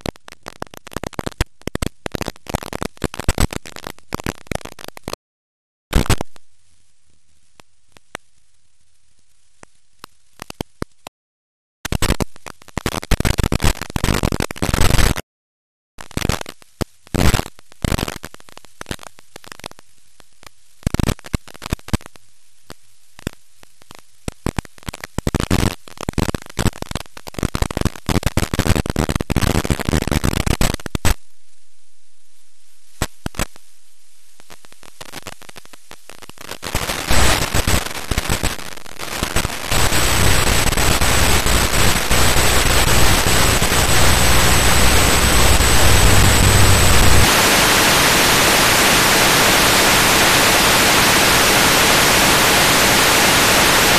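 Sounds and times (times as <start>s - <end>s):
tv static hiss: 0.0s - 5.2s, 5.9s - 11.1s, 11.9s - 15.2s, 16.0s - 53.9s.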